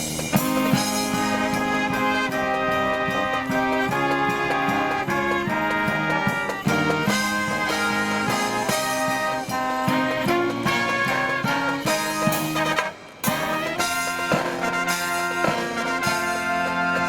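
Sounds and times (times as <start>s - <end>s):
brass band playing: 0.0s - 17.0s
percussion beat: 0.0s - 17.0s.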